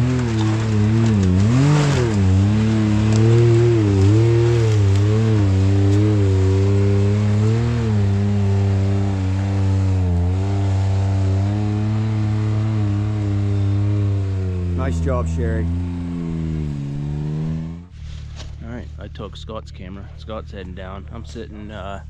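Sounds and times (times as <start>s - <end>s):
utv engine revving: 0.0s - 22.0s.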